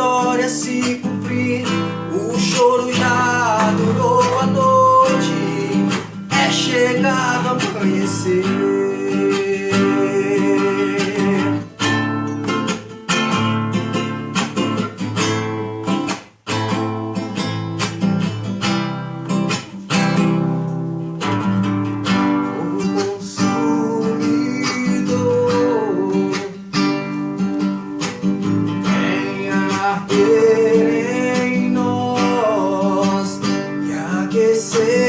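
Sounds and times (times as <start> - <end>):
strummed acoustic guitar: 0.0 - 35.0.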